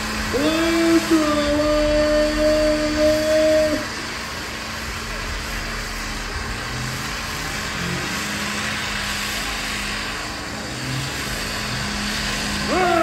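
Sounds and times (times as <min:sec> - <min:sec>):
tires spinning: 0:00.0 - 0:13.0
truck engine revving high: 0:00.0 - 0:13.0.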